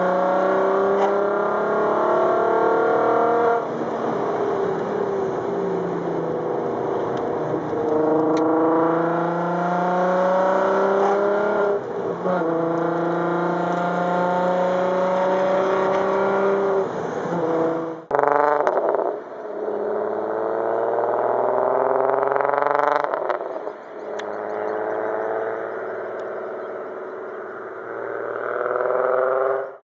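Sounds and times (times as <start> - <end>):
car engine revving at full throttle: 0.0 - 29.8.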